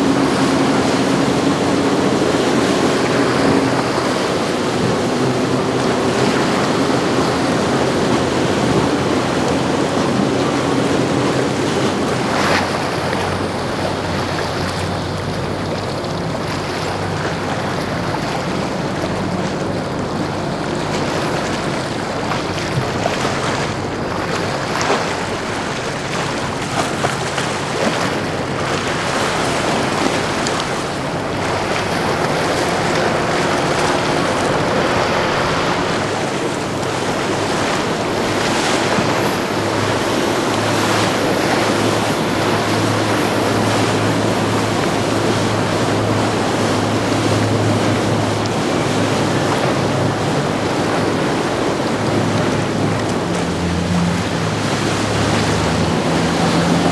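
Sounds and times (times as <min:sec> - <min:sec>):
low boat engine hum: 0:00.0 - 0:56.9
rushing wake and surf water: 0:00.0 - 0:56.9.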